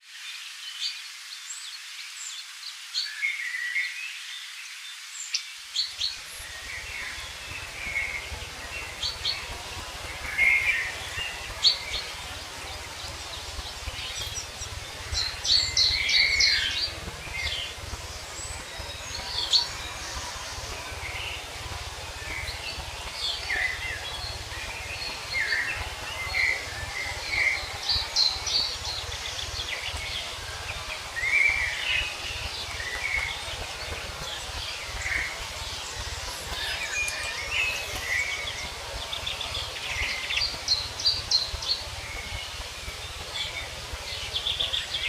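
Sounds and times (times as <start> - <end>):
songbirds chirping and trilling: 0.0 - 45.0
steady hiss: 0.0 - 45.0.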